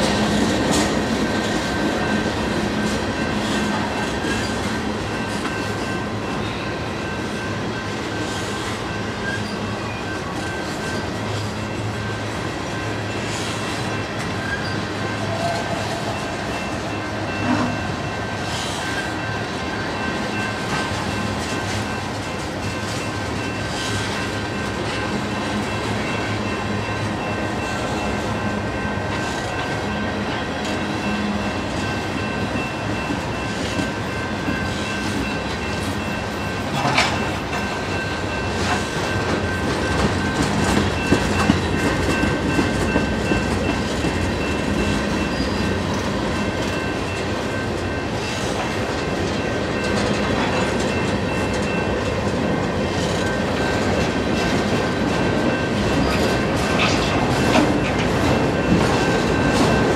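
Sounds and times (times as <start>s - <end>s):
sharp train clanks: 0.0s - 59.9s.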